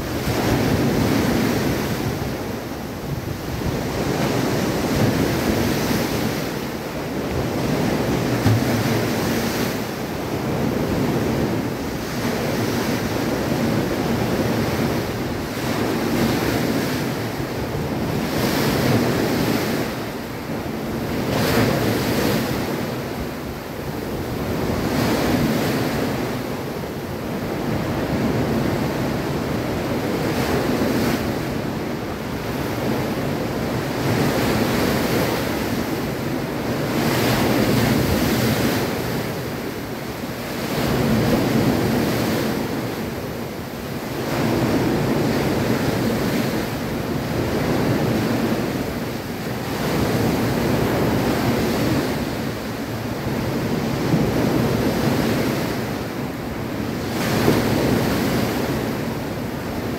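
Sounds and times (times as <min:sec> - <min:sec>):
waves breaking on sand: 0:00.0 - 0:59.9.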